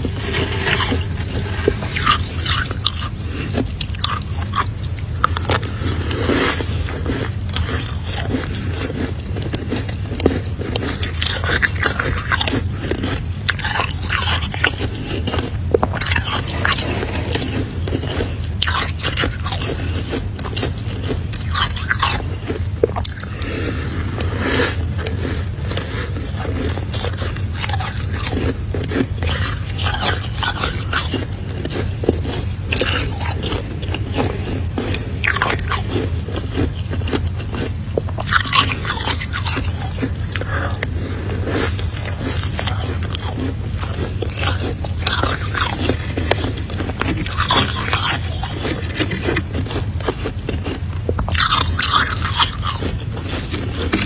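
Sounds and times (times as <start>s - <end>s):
spoon scraping frost: 0.0s - 50.6s
crunching between teeth: 0.0s - 54.0s
steady low hum: 0.0s - 54.0s.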